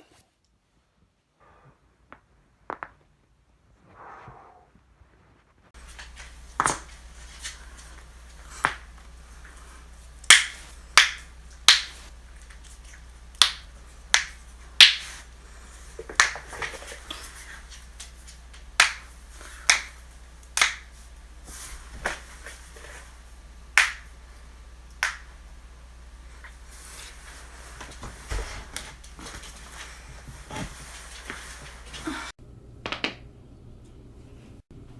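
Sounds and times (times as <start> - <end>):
faint low hum: 0.1 - 34.9.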